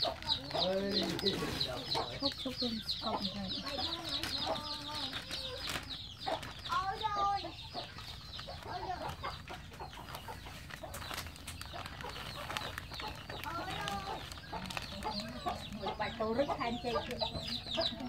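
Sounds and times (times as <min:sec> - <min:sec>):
chickens clucking: 0:00.0 - 0:18.0
rapid high-pitched chirping: 0:00.0 - 0:18.0.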